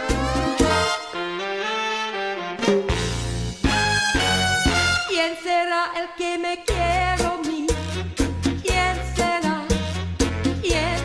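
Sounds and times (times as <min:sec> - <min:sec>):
cha-cha music with brass: 0:00.0 - 0:05.7, 0:06.6 - 0:11.0.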